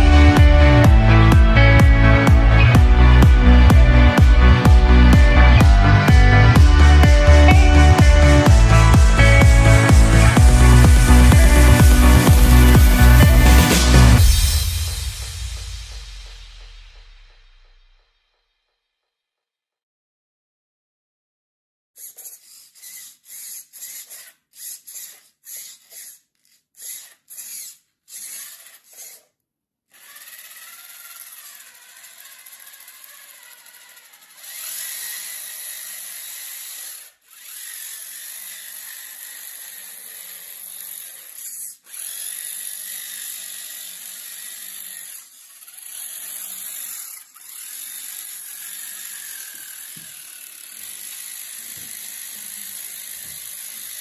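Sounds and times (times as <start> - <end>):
power drill running: 0.0 - 16.1, 22.0 - 29.3, 29.9 - 54.0.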